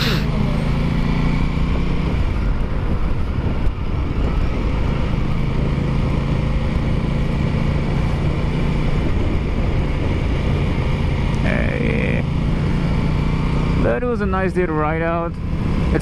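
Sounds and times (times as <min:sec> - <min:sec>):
motorcycle engine running: 0:00.0 - 0:16.0
rushing wind: 0:00.0 - 0:16.0.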